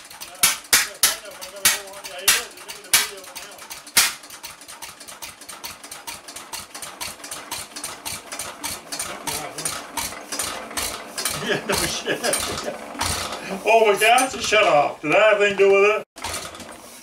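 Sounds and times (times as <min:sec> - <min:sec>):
engine clattering: 0:00.0 - 0:17.0.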